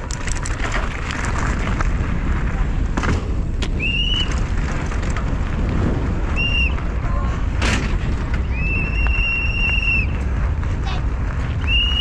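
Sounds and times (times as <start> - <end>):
bike knocking and rattling: 0.0 - 12.0
wind and tyre rumble: 0.0 - 12.0.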